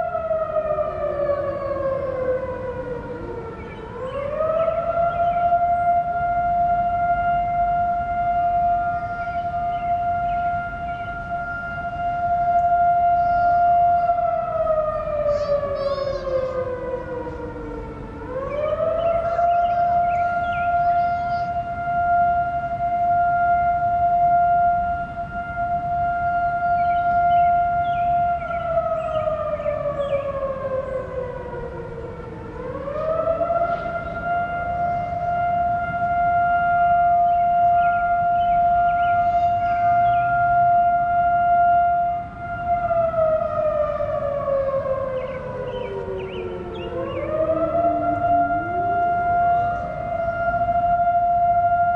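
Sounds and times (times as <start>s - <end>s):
tornado warning sirens wailing: 0.0s - 51.9s.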